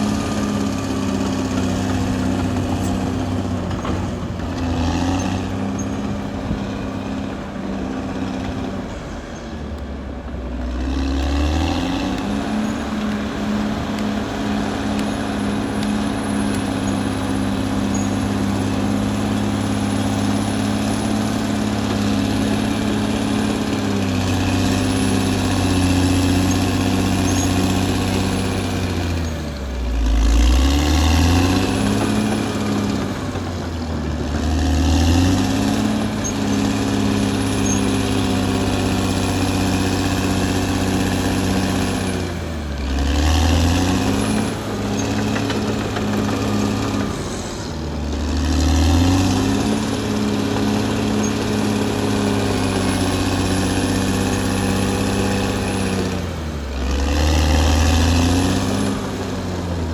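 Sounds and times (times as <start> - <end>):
bulldozer diesel engine working: 0.0 - 59.9.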